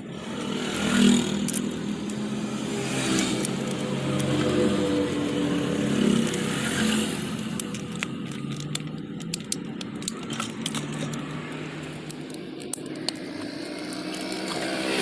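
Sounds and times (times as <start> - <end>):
metallic clicks and rattles: 0.0 - 15.0.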